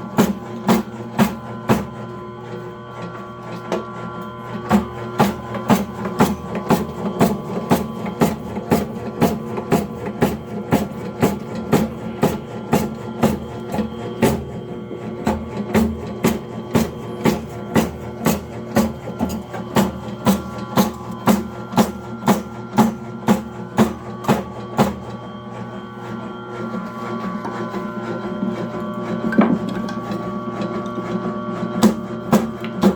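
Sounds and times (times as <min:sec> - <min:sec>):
cutting machine motor hum: 0:00.0 - 0:32.9.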